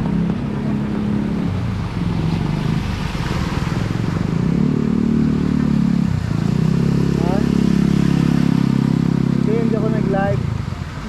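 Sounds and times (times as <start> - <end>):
small engine rumbling: 0.0 - 11.0.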